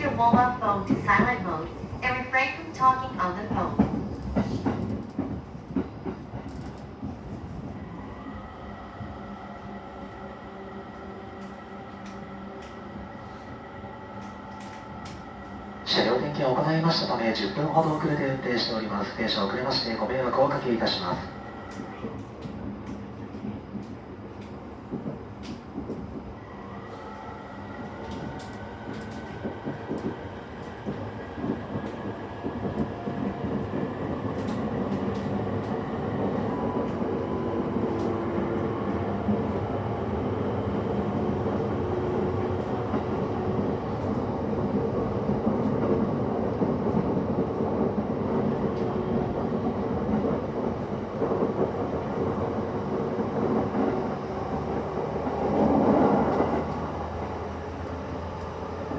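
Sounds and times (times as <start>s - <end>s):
train wheel and running noise: 0.0s - 58.9s.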